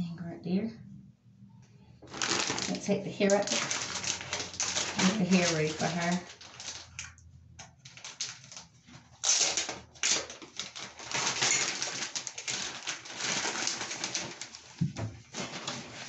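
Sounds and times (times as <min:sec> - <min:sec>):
plastic packaging crinkling: 0:02.0 - 0:16.0.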